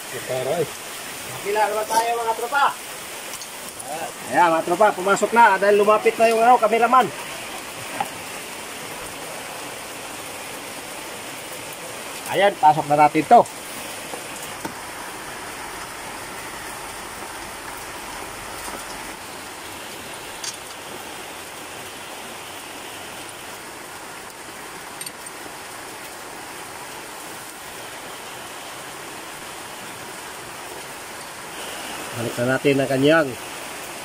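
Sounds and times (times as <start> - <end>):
steady rain-like hiss: 0.0 - 34.0.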